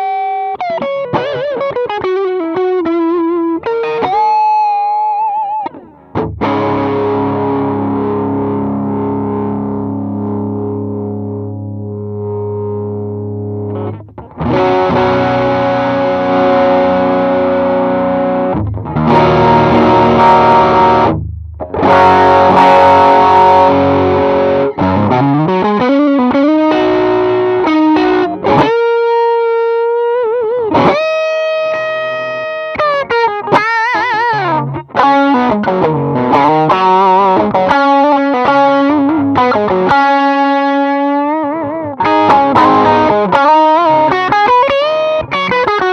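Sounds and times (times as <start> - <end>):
distorted electric guitar: 0.0 - 45.9.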